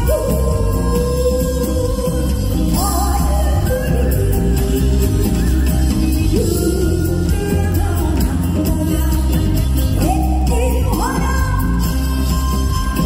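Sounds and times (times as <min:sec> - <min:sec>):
bass and band accompaniment: 0:00.0 - 0:13.0.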